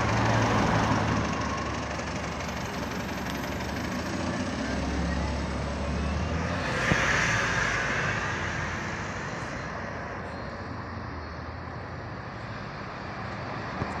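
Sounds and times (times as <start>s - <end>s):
bus engine pulling away: 0.0s - 14.0s
road noise: 0.0s - 14.0s.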